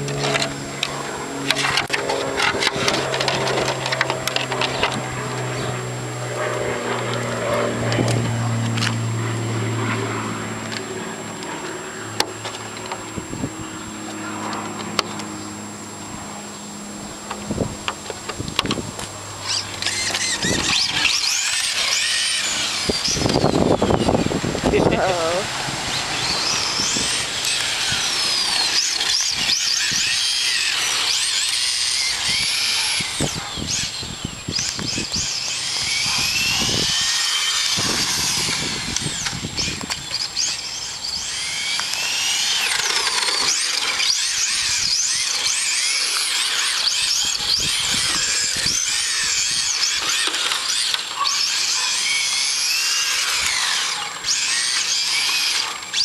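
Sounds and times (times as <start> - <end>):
rc car electric motor whining: 0.0 - 56.0.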